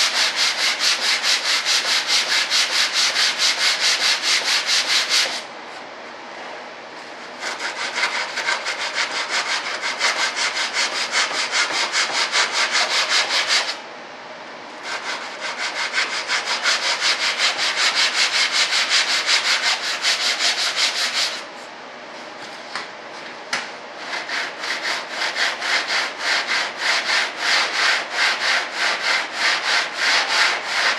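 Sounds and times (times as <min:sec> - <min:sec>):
sandpaper sanding wood: 0:00.0 - 0:05.4, 0:07.4 - 0:13.8, 0:14.8 - 0:21.4, 0:24.0 - 0:30.9.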